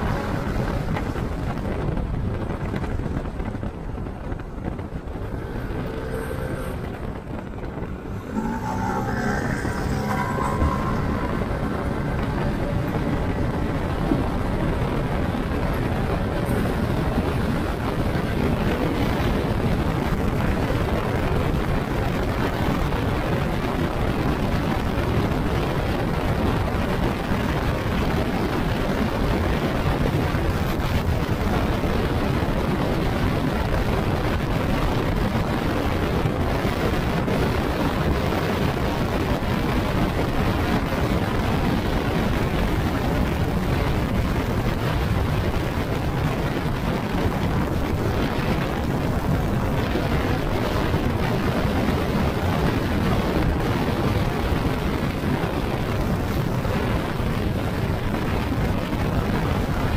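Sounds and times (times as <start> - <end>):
wind and road noise rumble: 0.0 - 59.9.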